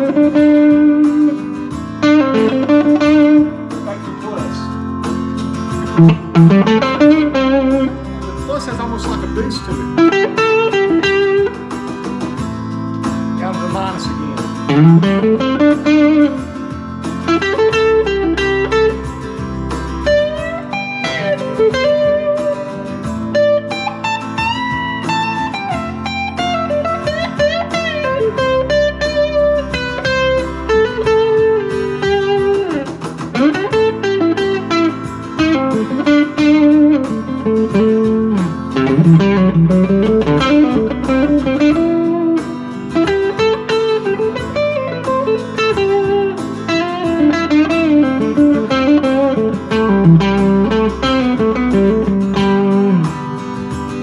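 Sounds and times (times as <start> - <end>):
backing track: 0.0 - 54.0
overdriven electric guitar lead: 0.0 - 54.0.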